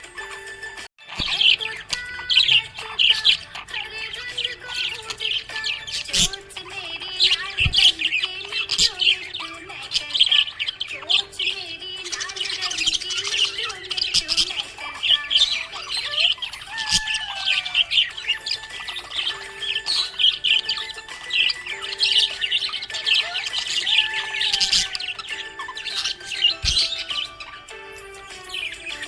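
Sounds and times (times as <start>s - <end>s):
budgies chirping and squawking: 1.0s - 29.0s.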